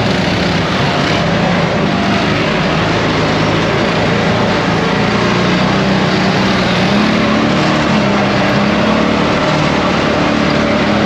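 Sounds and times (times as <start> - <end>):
constant rushing noise: 0.0 - 11.0
quad bike engine running: 0.0 - 11.0.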